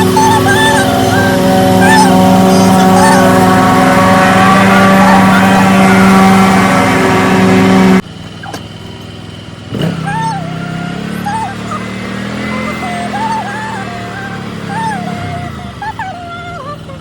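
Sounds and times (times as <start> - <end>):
loud motor hum: 0.0 - 17.0.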